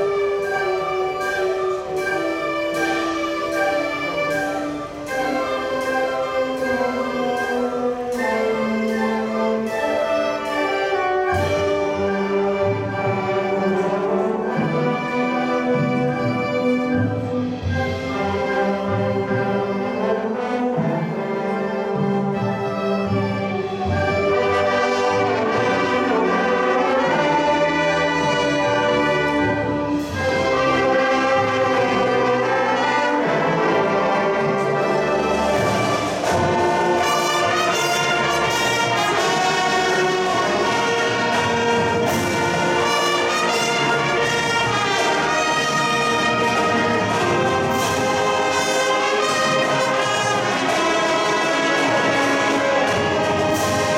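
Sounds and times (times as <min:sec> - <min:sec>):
brass chords and melody: 0:00.0 - 0:53.9
marching band percussion: 0:00.0 - 0:53.9.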